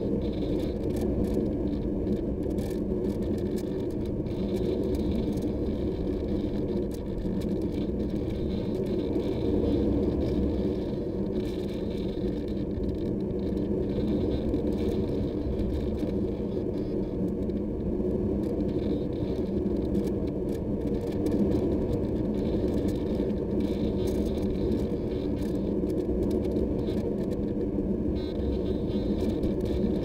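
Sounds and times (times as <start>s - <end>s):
faint crackles: 0.0s - 30.0s.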